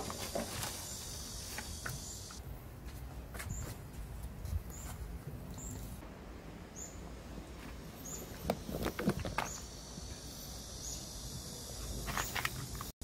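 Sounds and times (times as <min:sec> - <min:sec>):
low outdoor hum: 0:00.0 - 0:12.9.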